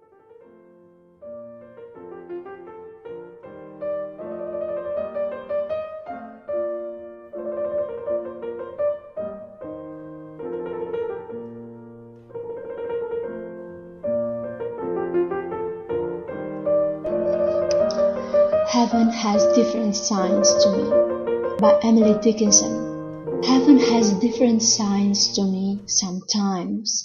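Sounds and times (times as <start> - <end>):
slow piano chords: 0.0 - 26.1.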